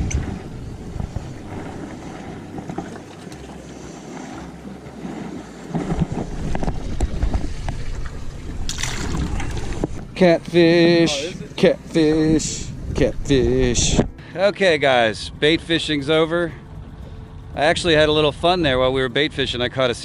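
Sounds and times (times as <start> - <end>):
wind buffeting microphone: 0.0 - 14.2, 14.8 - 19.7.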